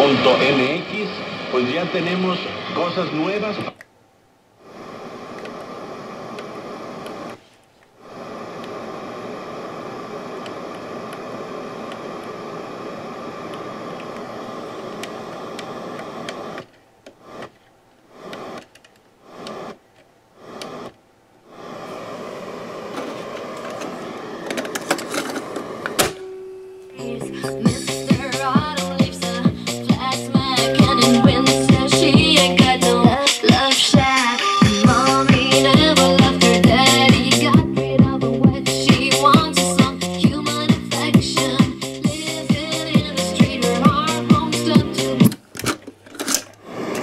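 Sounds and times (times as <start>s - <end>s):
radio static hiss: 0.0s - 3.8s, 4.5s - 26.2s, 27.0s - 45.4s, 46.2s - 47.0s.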